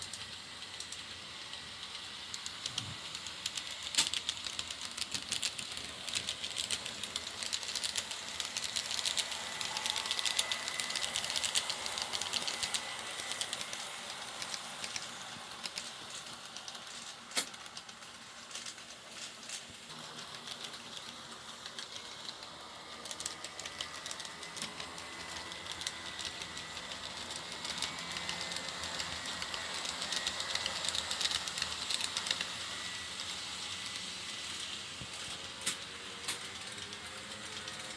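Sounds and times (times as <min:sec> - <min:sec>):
faint motor whine: 0:00.0 - 0:37.9
model train wheels clicking on rails: 0:00.0 - 0:37.9.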